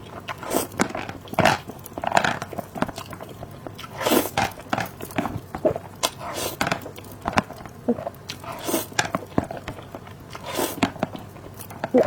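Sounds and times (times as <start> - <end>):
chewing and biting food: 0.0 - 12.0.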